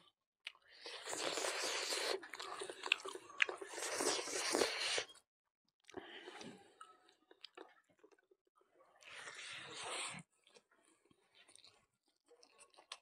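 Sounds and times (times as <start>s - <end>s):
chewing food with crunching: 0.4s - 5.1s, 5.8s - 8.4s, 9.0s - 13.0s.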